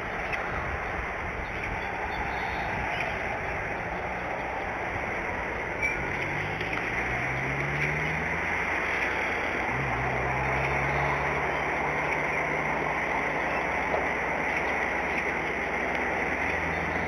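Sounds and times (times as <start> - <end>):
steady rain on branches: 0.0 - 17.0.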